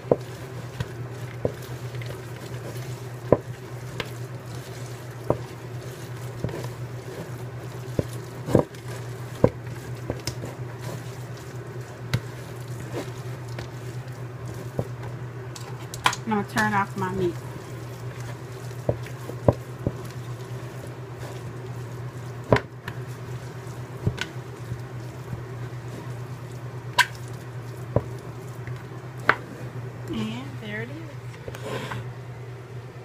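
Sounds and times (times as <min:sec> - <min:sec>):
spoon stirring wet filling: 0:00.0 - 0:30.2.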